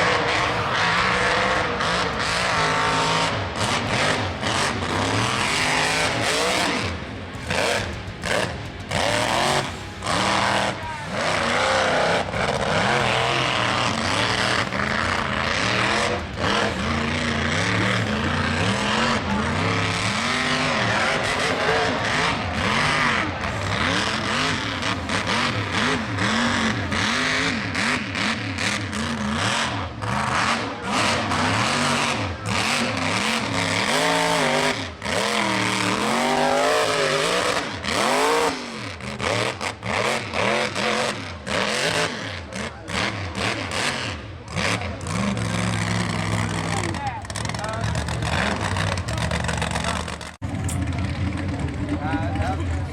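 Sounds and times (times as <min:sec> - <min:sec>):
truck engine revving: 0:00.0 - 0:52.9.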